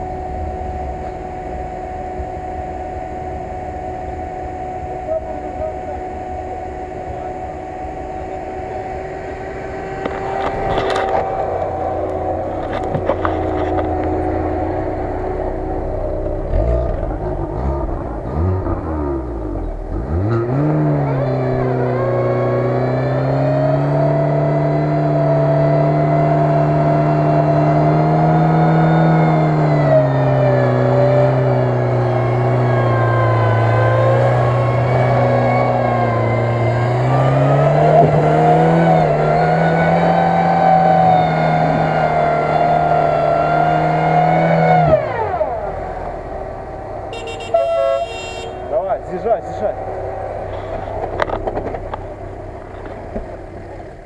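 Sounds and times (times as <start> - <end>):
car engine revving under load: 0.0 - 54.0.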